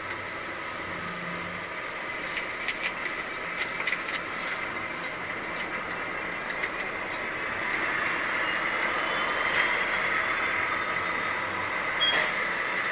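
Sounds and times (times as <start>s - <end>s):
lorry engine and road noise: 0.0s - 12.9s.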